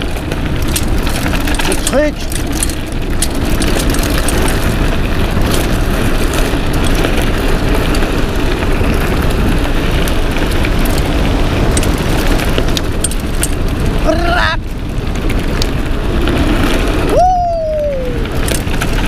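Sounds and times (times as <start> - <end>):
bike clicks and rattles: 0.0 - 19.0
tyre rumble: 0.0 - 19.0
wind buffeting microphone: 0.0 - 19.0.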